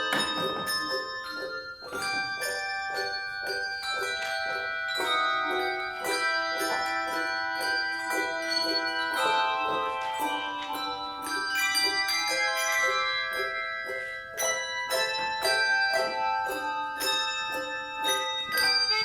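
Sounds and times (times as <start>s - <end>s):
handbells ringing: 0.0s - 19.0s.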